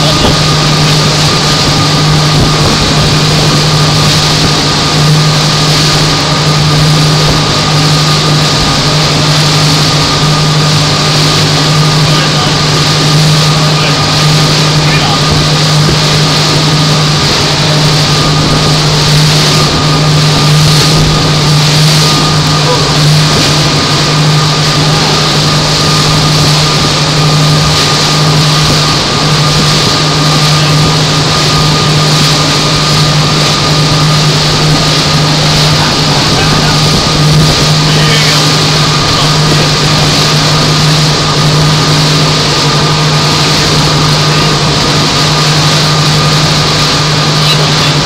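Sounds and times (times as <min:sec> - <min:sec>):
motorboat engine running: 0:00.0 - 0:48.0
wind and water rushing: 0:00.0 - 0:48.0.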